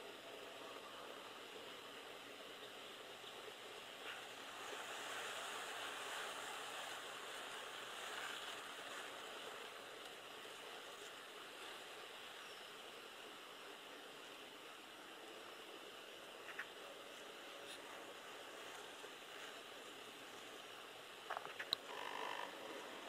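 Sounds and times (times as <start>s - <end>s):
faint outdoor background hiss: 0.0s - 23.0s.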